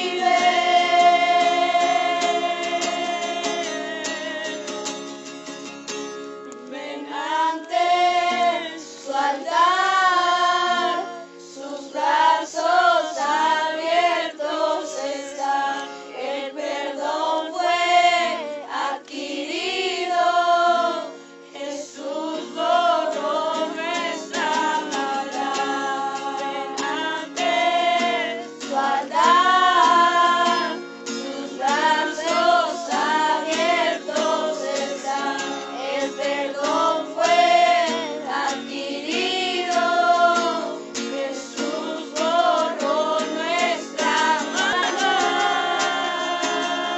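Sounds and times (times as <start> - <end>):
group singing worship song: 0.0 - 5.2, 6.6 - 46.9
acoustic guitar: 0.0 - 46.9.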